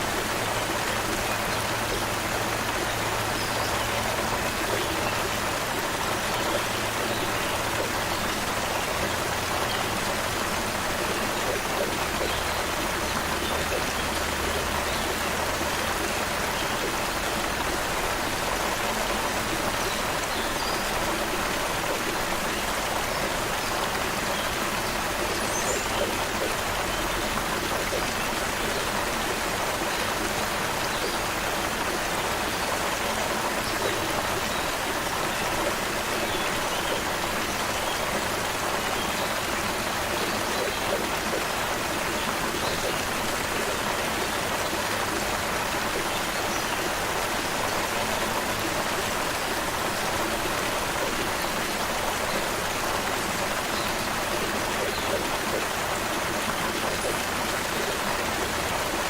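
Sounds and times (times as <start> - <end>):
creek water babbling: 0.0 - 59.0.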